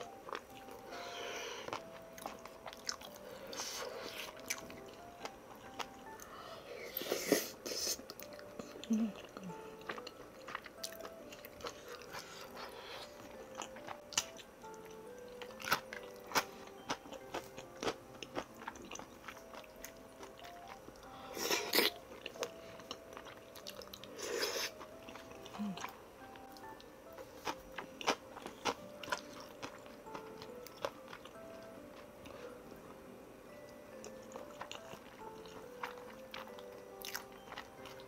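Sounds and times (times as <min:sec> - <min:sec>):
quiet background music: 0:00.0 - 0:38.0.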